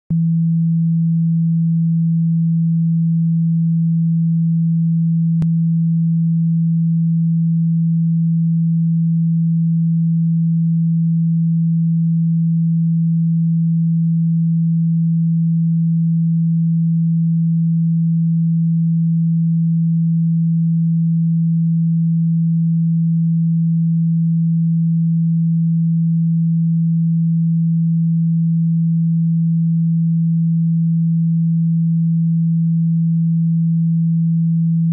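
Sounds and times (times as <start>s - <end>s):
low pure tone: 0.1s - 34.9s.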